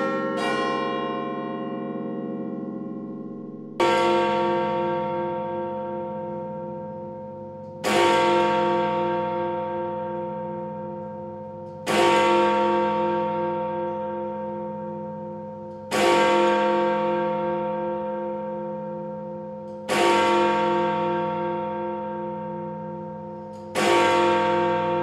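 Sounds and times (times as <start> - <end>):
clock bell striking: 0.0 - 25.0.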